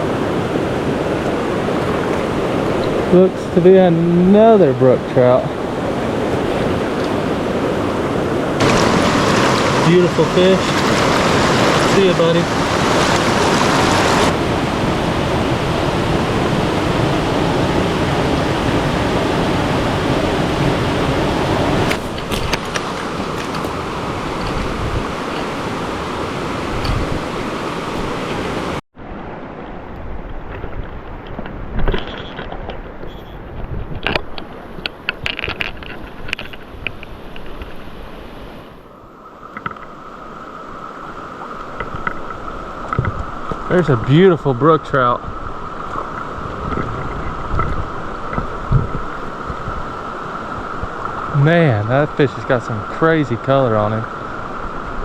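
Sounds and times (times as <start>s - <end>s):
stream rushing over rocks: 0.0s - 30.4s, 39.5s - 55.0s.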